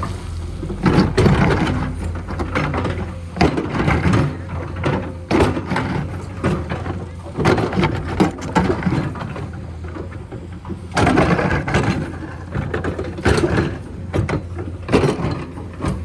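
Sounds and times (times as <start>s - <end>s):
heavy machine engine running: 0.0s - 16.0s.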